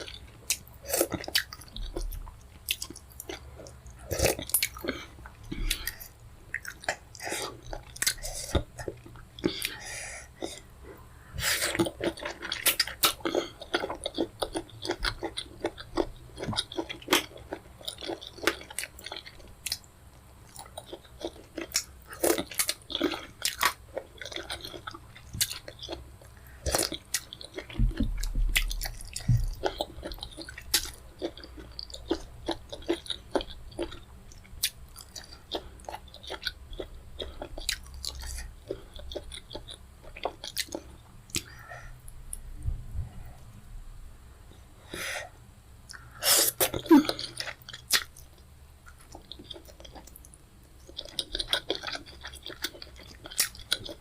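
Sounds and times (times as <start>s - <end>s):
wet chewing and lip-smacking: 0.0s - 9.8s, 11.6s - 42.4s, 45.9s - 54.0s.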